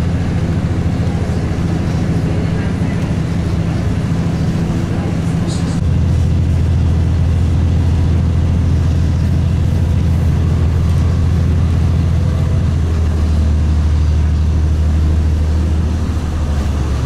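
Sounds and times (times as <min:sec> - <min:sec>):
tram rumble from inside cabin: 0:00.0 - 0:17.0.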